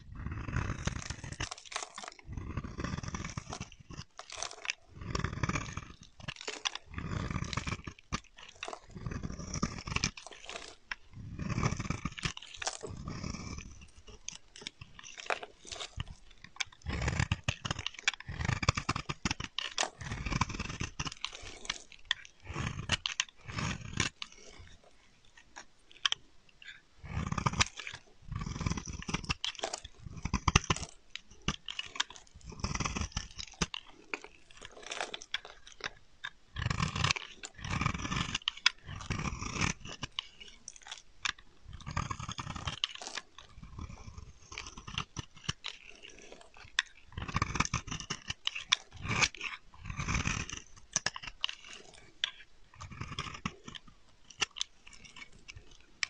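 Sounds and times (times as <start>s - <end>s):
knife shaving soap: 0.0s - 56.0s.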